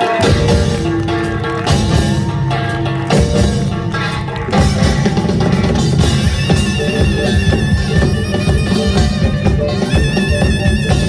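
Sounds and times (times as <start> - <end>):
rapid percussion: 0.0 - 11.0
reedy wind instrument: 0.0 - 11.0.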